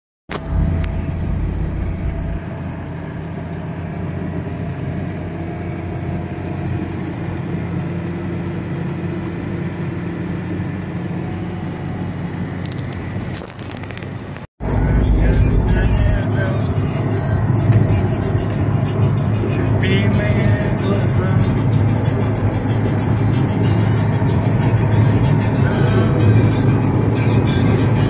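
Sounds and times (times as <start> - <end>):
heavy low rumble: 0.3 - 5.8, 10.7 - 28.0
car engine hum: 0.3 - 28.0.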